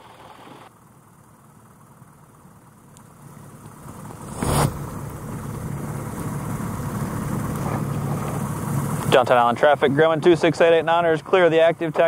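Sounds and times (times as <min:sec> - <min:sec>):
light aircraft piston engine: 0:00.0 - 0:12.0.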